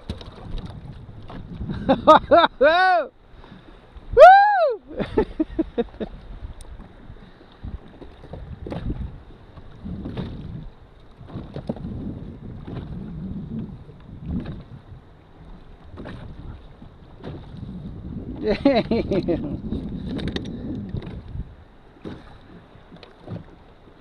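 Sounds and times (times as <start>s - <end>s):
wind buffeting microphone: 0.0s - 2.7s, 3.4s - 23.7s
water splashing and sloshing: 0.0s - 24.0s.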